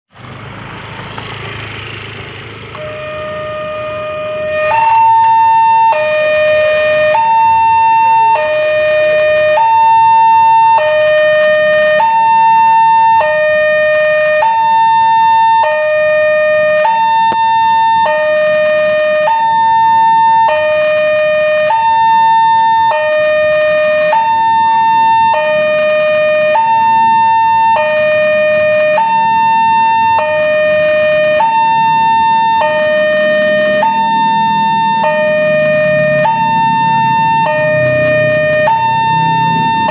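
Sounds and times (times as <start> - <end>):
road traffic noise: 0.1 - 39.9
two-tone level crossing alarm: 2.7 - 39.9.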